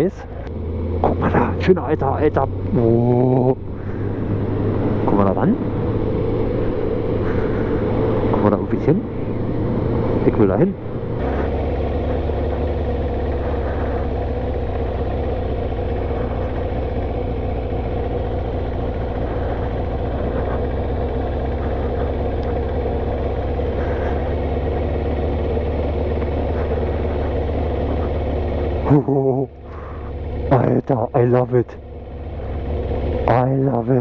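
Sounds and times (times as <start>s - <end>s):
motorcycle engine rumbling: 0.0s - 34.0s.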